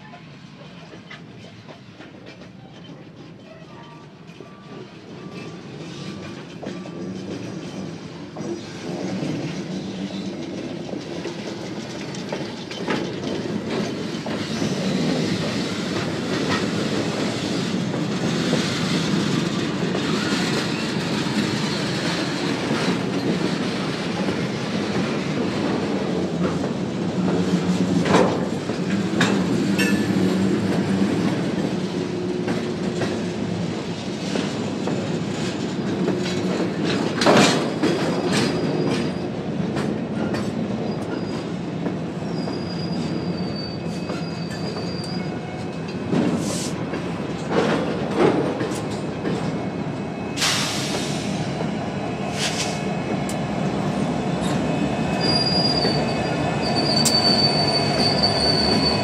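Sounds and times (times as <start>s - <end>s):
train wheels rumbling over rails: 0.0s - 59.0s.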